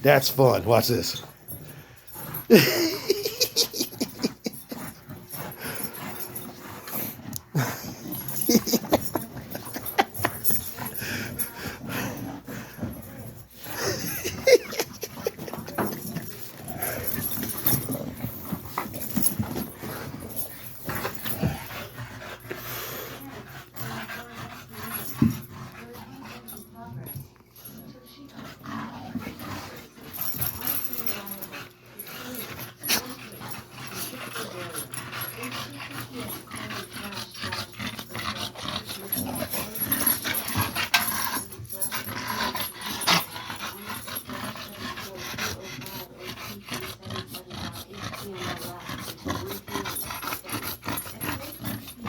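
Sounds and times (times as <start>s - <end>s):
dogs growling while playing: 0.0s - 52.0s.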